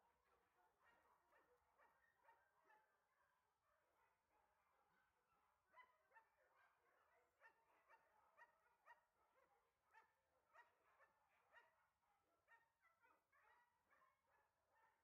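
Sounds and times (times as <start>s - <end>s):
faint dog barking: 0.0s - 15.0s.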